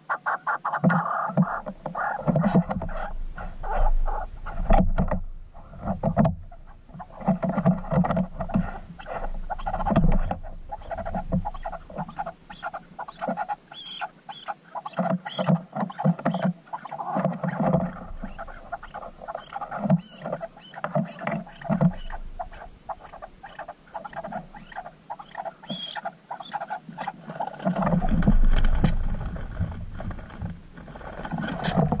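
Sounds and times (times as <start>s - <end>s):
partridges clucking: 0.6s - 29.0s.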